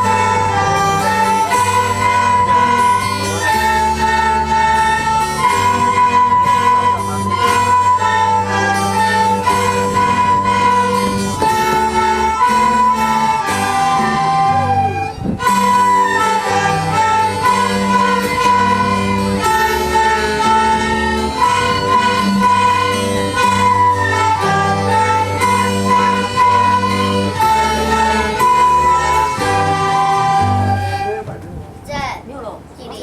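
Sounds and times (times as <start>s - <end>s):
children's instrumental ensemble playing: 0.0s - 32.0s.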